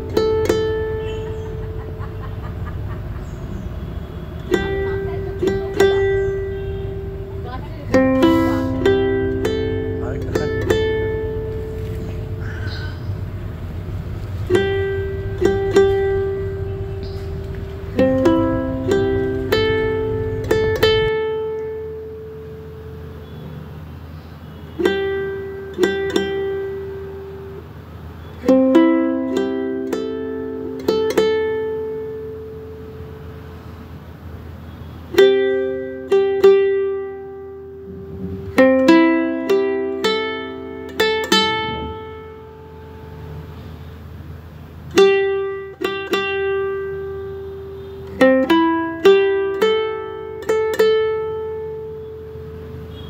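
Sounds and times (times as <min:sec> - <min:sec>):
plucked string music: 0:00.0 - 0:23.4, 0:24.5 - 0:53.0.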